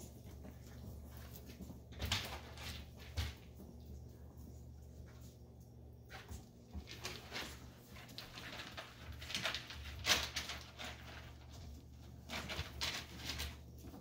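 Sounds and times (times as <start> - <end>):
puppies scratching on tile floor: 0.0 - 14.0.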